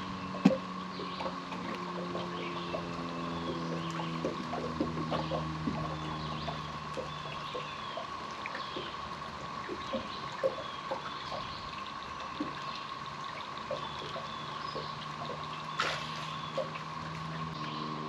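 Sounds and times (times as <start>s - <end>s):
birds chirping faintly: 0.0s - 18.0s
steady thin hum: 0.0s - 18.0s
water lapping against boat hull: 0.0s - 18.0s.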